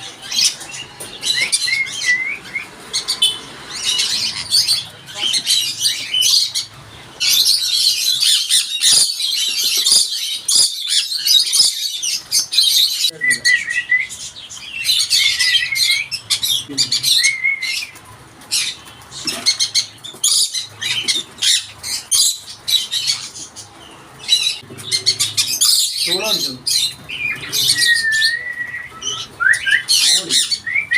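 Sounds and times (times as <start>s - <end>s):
lovebirds chirping: 0.0s - 30.9s.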